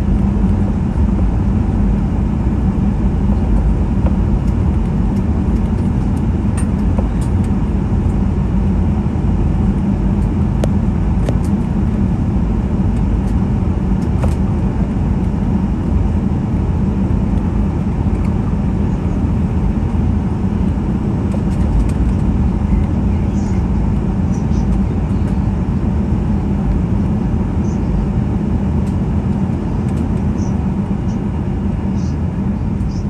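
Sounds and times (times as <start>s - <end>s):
aircraft engines low rumble: 0.0s - 33.0s.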